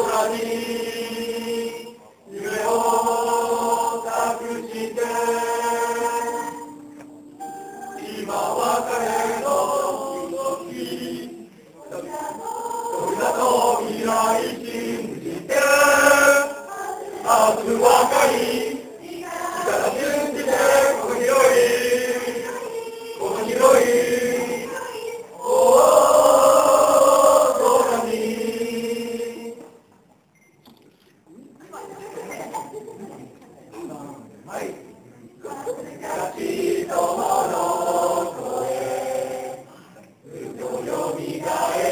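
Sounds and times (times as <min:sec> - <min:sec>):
group singing in unison: 0:00.0 - 0:29.9, 0:35.4 - 0:41.9.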